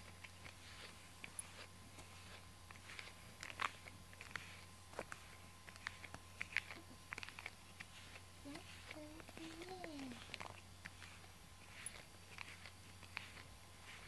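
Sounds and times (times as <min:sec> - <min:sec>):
brush swishing through fur: 0:00.0 - 0:14.0
small brush clicks: 0:00.0 - 0:14.0.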